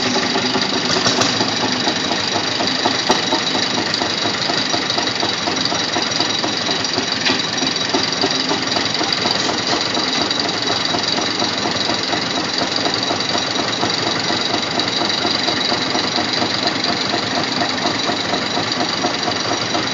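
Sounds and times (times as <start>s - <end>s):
tractor engines running: 0.0s - 19.9s.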